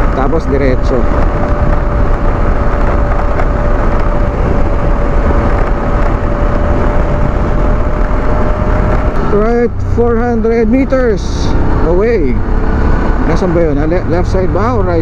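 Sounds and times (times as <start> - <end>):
motorcycle engine cruising: 0.0 - 15.0
steady high whine: 0.0 - 15.0
wind rush on microphone: 0.0 - 15.0.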